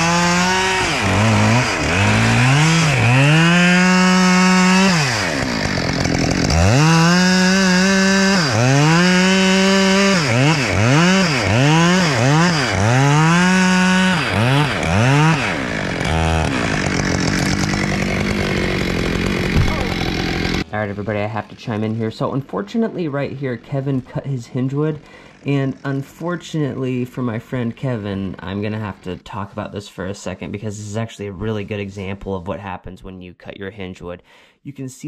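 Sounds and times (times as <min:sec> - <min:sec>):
chainsaw revving: 0:00.0 - 0:29.2.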